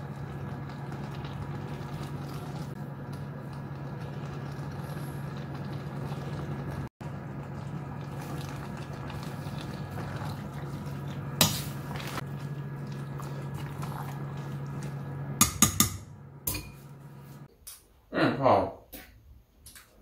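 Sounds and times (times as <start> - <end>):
steady low hum: 0.0 - 17.5.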